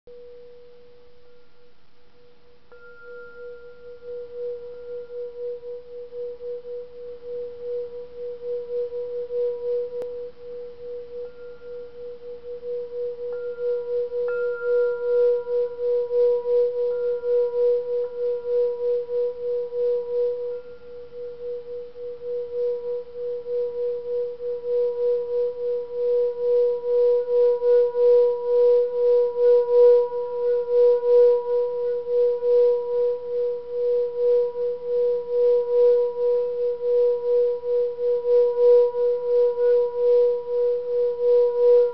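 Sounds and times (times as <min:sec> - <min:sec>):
singing bowl ringing: 0:00.1 - 0:41.9.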